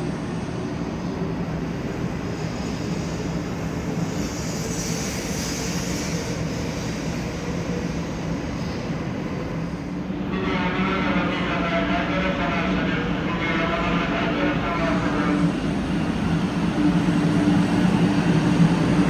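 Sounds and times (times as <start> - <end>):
train rushing and humming: 0.0 - 19.0.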